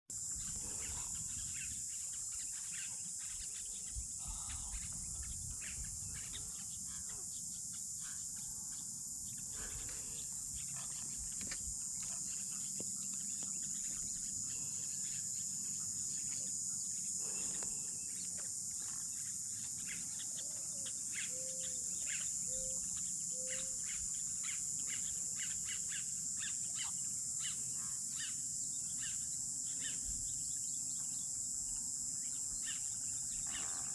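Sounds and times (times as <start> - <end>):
high-pitched insect chorus: 0.1 - 33.9
birds chirping: 0.2 - 33.9.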